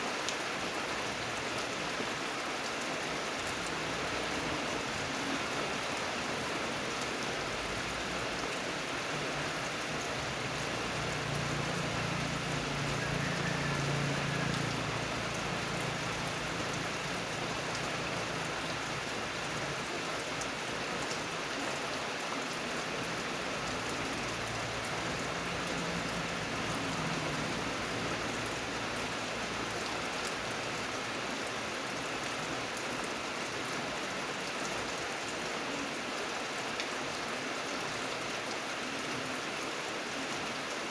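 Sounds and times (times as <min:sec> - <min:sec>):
rain pattering: 0:00.1 - 0:40.9.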